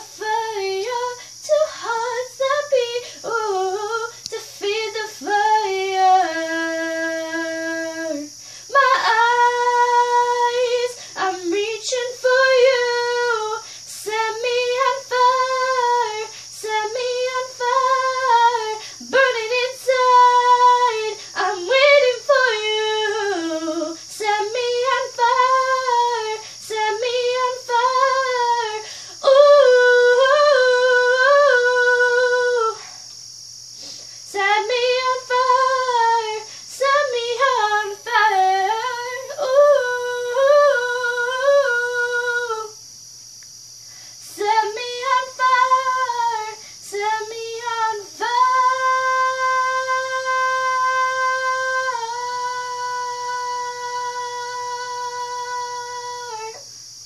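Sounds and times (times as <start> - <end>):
woman singing unaccompanied: 0.0 - 33.2, 33.9 - 42.8, 44.2 - 57.0
faint steady hum: 0.0 - 57.0.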